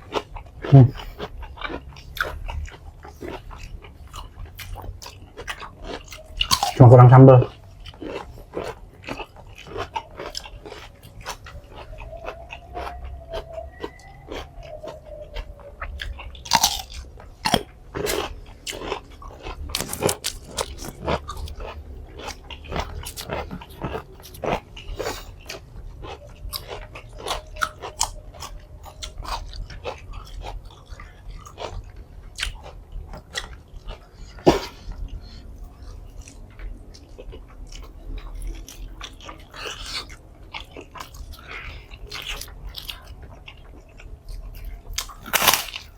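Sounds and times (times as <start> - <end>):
person chewing and biting: 0.0 - 45.9.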